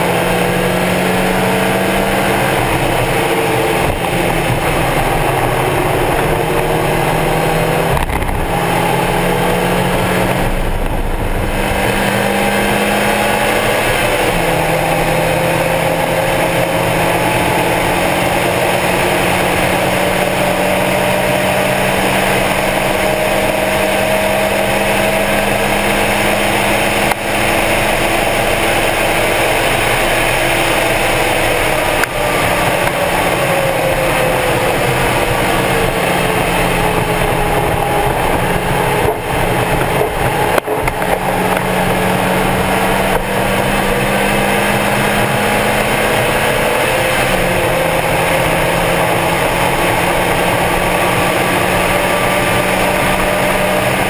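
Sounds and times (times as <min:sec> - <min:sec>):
car engine at full throttle: 0:00.0 - 0:54.0
wind and road noise: 0:00.0 - 0:54.0.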